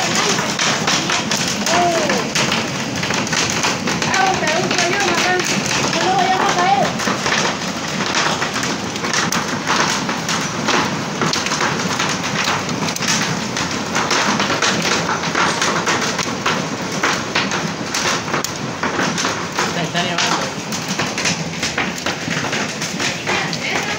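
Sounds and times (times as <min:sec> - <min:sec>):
hailstones clattering: 0:00.0 - 0:23.9.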